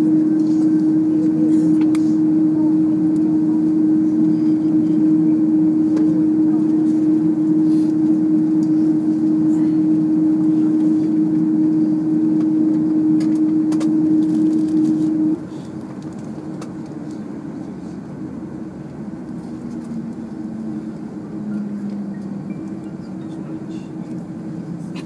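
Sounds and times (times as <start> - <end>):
aircraft cabin drone: 0.0 - 25.0.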